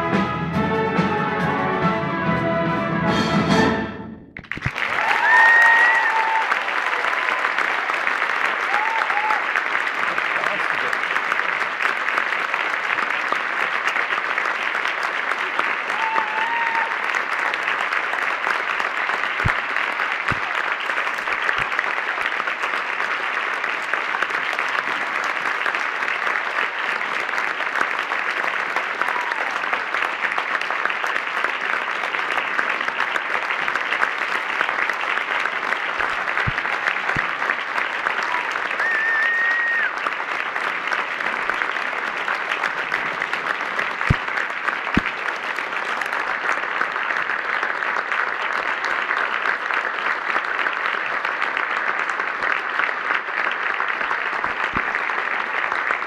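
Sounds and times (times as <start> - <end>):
audience applauding: 4.4 - 56.0.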